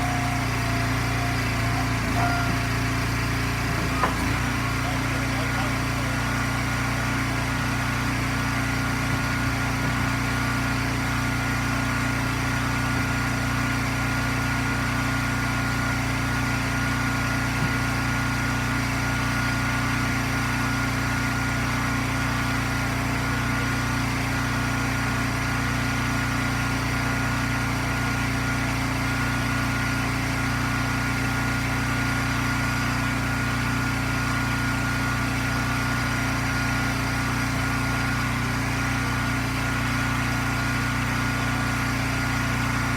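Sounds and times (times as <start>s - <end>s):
wood splitter engine running: 0.0s - 42.9s.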